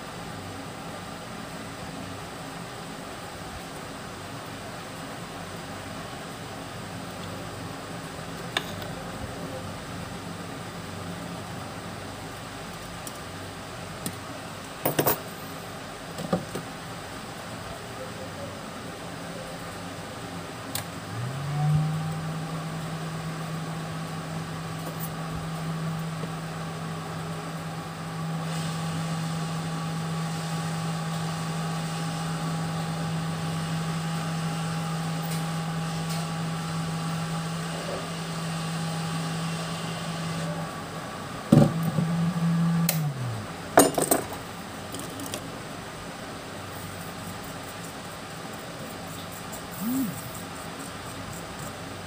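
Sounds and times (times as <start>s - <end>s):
hot air station fan humming: 0.0s - 52.0s.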